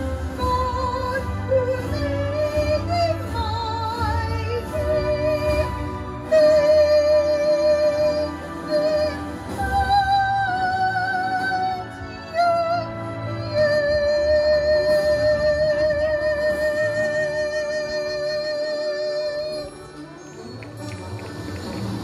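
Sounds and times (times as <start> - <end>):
woman singing into a microphone: 0.0 - 19.7
instrumental backing music: 0.0 - 22.0.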